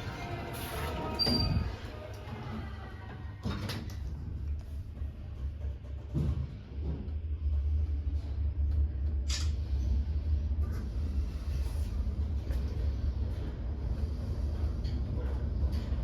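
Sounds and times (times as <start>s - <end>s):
lift car rumbling: 0.0s - 16.0s.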